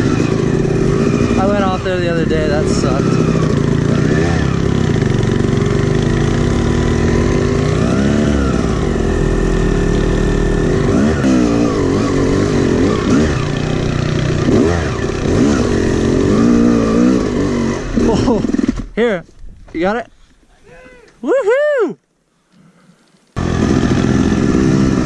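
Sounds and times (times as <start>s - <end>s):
two-stroke dirt bike engine revving: 0.0s - 19.0s, 23.4s - 25.0s.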